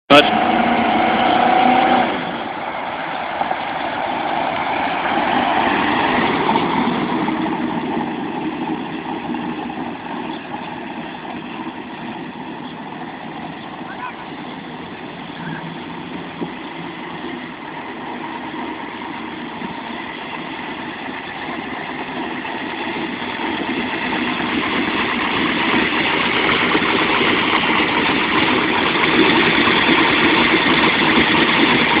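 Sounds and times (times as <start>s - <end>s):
road noise: 0.1s - 32.0s
truck engine running: 0.1s - 32.0s.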